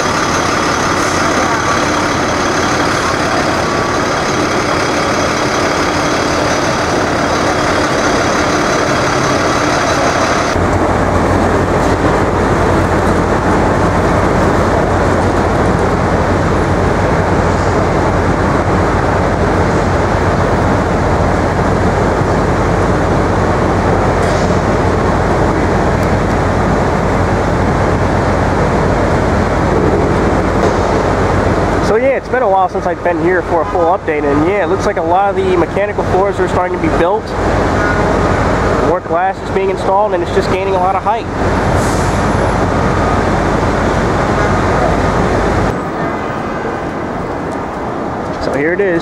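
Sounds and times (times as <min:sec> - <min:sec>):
city street traffic: 0:00.0 - 0:49.0
heavy low rumble: 0:00.0 - 0:49.0
high steady whine: 0:00.0 - 0:49.0.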